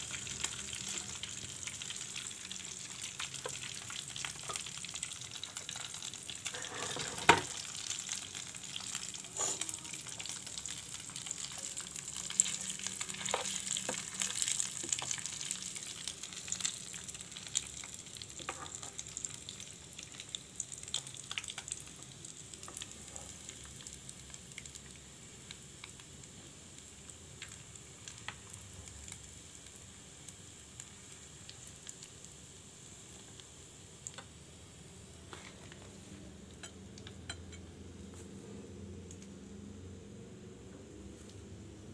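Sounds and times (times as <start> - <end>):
oil sizzling and bubbling in a wok: 0.0 - 41.9.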